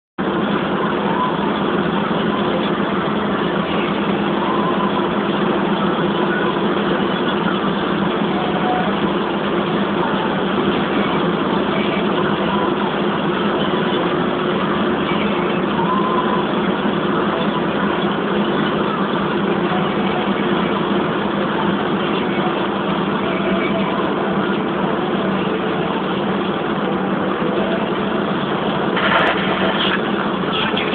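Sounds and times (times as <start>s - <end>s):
car engine hum: 0.2s - 30.9s
road and tyre noise: 0.2s - 30.9s.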